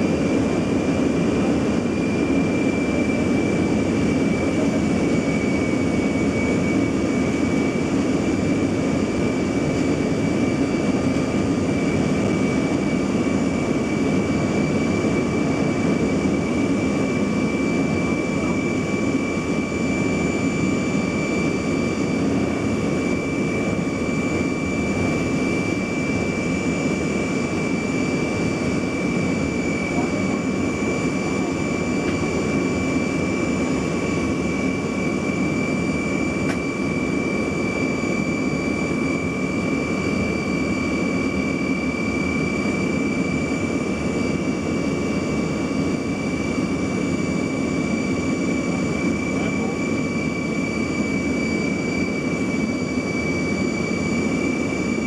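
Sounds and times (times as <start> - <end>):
jet engines rushing drone: 0.0 - 55.0.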